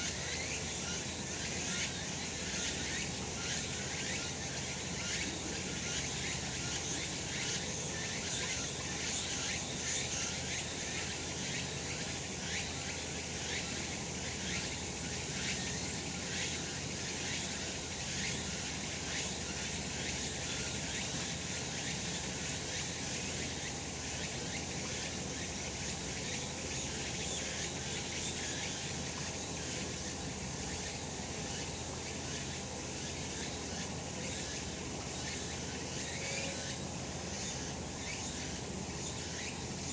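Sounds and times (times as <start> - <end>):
cicadas calling: 0.0 - 39.9.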